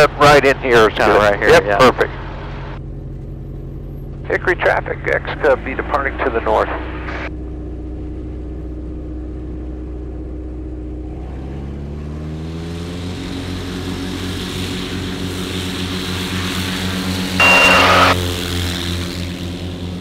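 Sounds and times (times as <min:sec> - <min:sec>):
light aircraft engine and propeller: 0:00.0 - 0:20.0.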